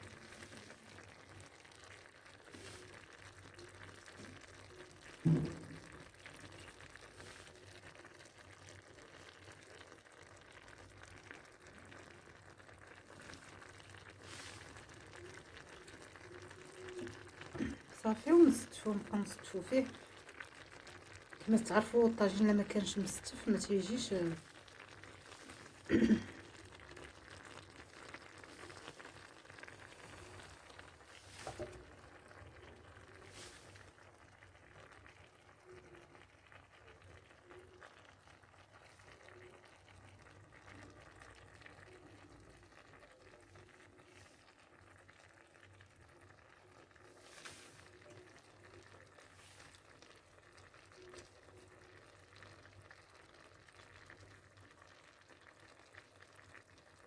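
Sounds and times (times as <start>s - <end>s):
tajine simmering: 0.0s - 57.0s.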